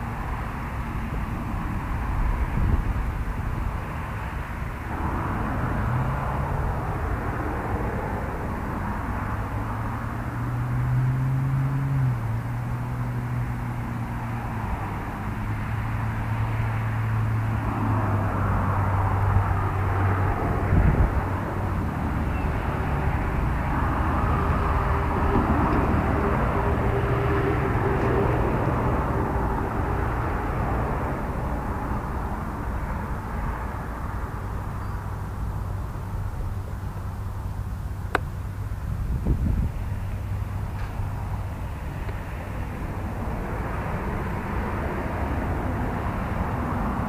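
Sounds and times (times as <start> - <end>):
distant engine droning: 0.0 - 47.0.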